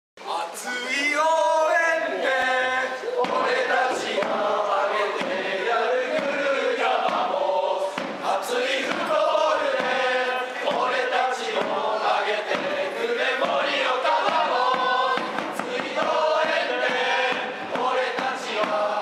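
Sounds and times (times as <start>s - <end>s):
football supporters chanting: 0.8s - 19.0s.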